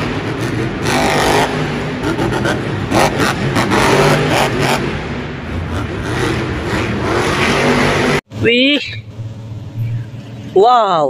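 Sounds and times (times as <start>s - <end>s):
monster truck engine revving: 0.0s - 10.6s.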